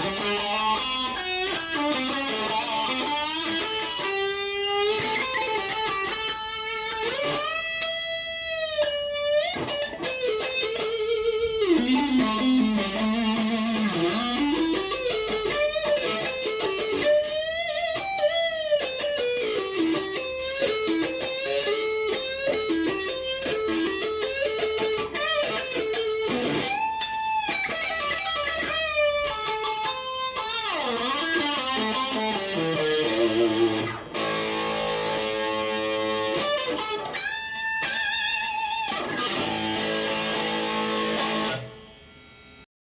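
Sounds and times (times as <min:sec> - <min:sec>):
electric guitar lead lines: 0:00.0 - 0:42.7.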